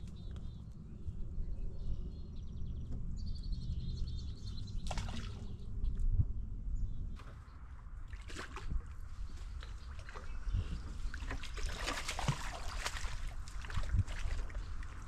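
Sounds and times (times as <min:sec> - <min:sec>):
songbirds chirping: 0:00.0 - 0:15.0
wind rumble on microphone: 0:00.0 - 0:15.0.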